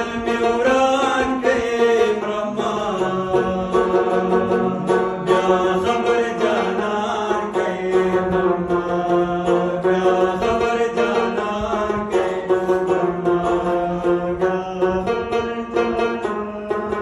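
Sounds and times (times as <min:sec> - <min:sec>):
man singing long notes: 0:00.0 - 0:17.0
plucked lute strokes: 0:00.0 - 0:17.0.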